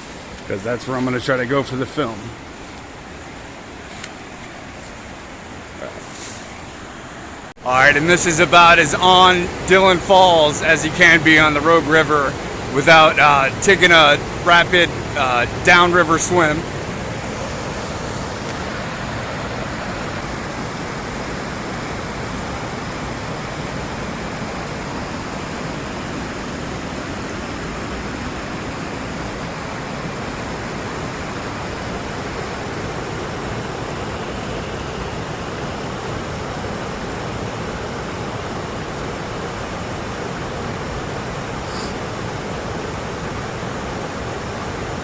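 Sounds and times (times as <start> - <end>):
waterfall and rapids rushing: 0.0 - 45.0.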